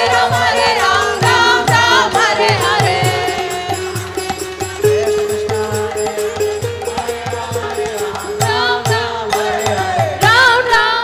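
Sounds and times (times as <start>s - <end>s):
hand drum beat: 0.0s - 10.7s
harmonium holding a note: 0.0s - 11.0s
voices singing a chant: 0.0s - 11.0s.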